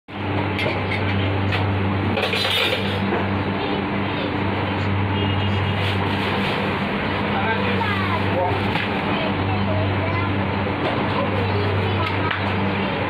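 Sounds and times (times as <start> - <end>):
low machine hum: 0.1 - 13.0.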